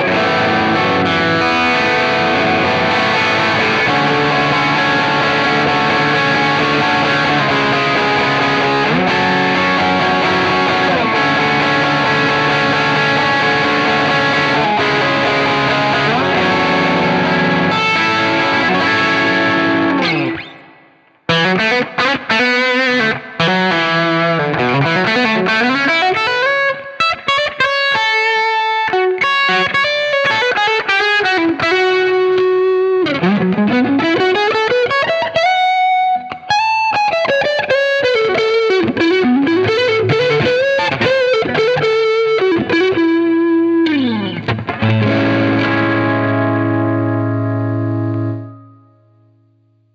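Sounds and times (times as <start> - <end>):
overdriven electric guitar: 0.0 - 49.9.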